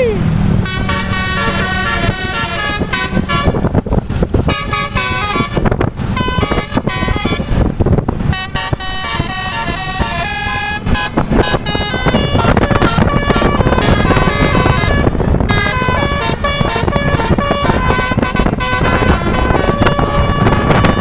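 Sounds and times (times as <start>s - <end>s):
multi-tone air horn melody: 0.6s - 3.8s, 4.4s - 21.0s.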